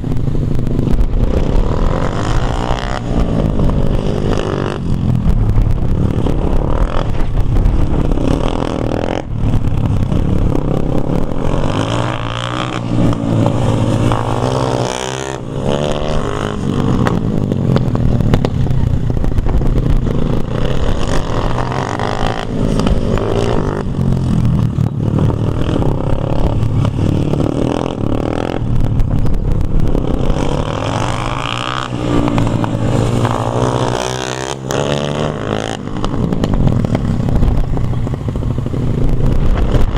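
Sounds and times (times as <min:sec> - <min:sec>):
dirt bike engine revving: 0:00.7 - 0:05.0, 0:05.7 - 0:39.9.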